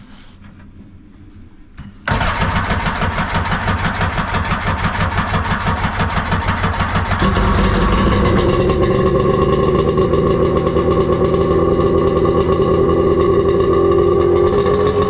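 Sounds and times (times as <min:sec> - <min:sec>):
boat engine starting and running: 0:02.1 - 0:15.0.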